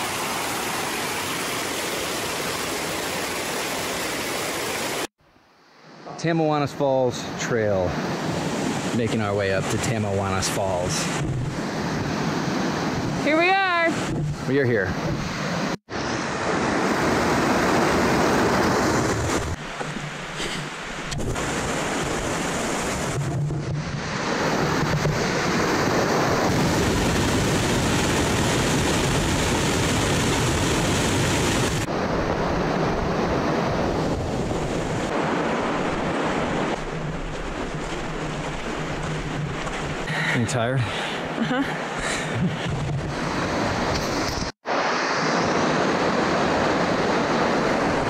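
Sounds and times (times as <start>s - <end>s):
water rushing in creek: 0.0s - 48.0s.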